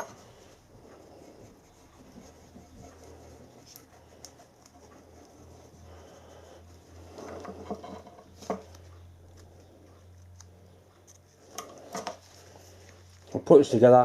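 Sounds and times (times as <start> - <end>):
light rubbing and scraping: 0.0 - 14.0
low steady hum: 0.0 - 14.0.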